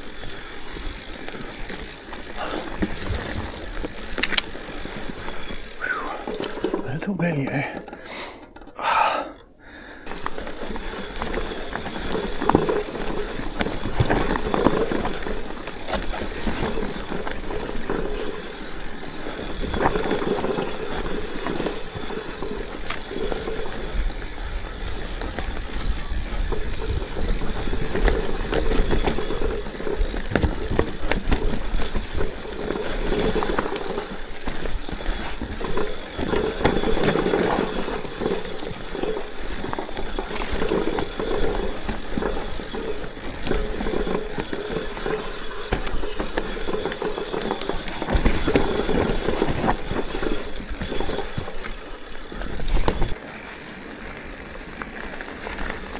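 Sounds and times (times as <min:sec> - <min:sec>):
bike knocks and rattles: 0:00.0 - 0:06.9, 0:10.1 - 0:53.2
bike tyre and drivetrain noise: 0:00.0 - 0:55.9.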